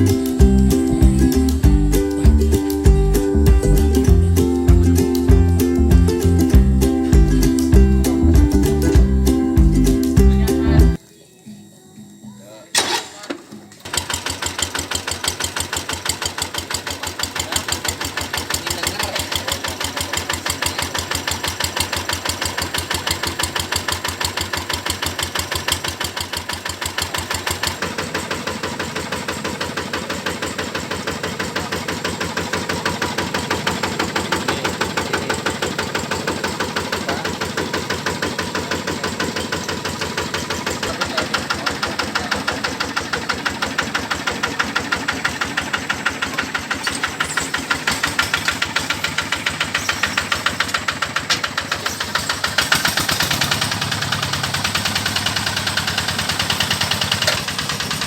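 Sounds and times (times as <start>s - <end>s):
diesel engine knocking: 0.0s - 10.9s, 13.8s - 58.0s.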